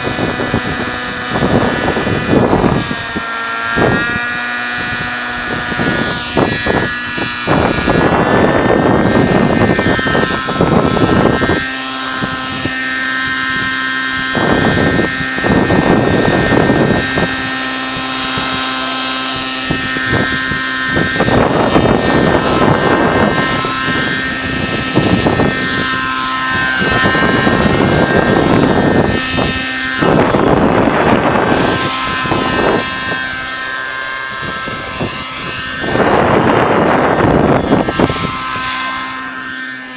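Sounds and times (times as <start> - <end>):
bursts of rushing noise: 0.0 - 39.9
model helicopter engine and rotor: 0.0 - 39.9.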